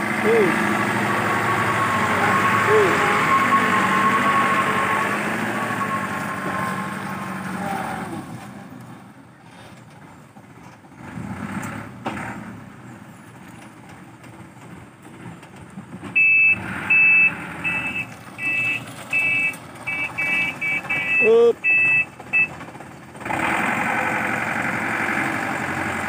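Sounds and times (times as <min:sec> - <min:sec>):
diesel truck engine idling: 0:00.0 - 0:09.4, 0:12.6 - 0:26.0.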